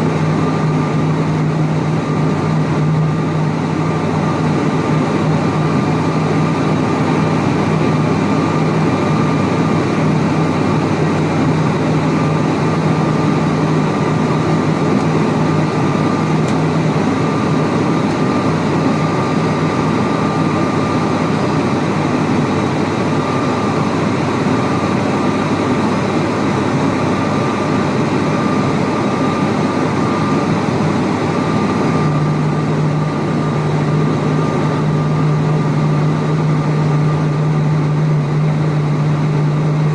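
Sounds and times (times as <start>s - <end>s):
propeller hum: 0.0s - 39.9s
turboprop engines droning in cabin: 0.0s - 39.9s.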